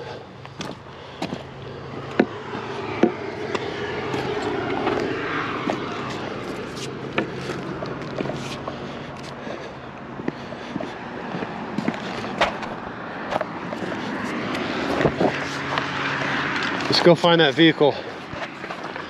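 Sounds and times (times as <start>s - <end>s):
vehicle passing: 0.0s - 19.0s
footsteps on rock: 0.4s - 17.2s.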